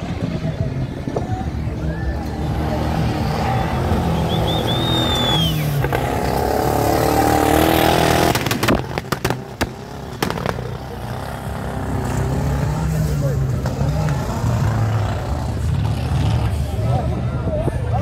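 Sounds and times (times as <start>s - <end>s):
buggy engine revving: 0.0s - 17.3s.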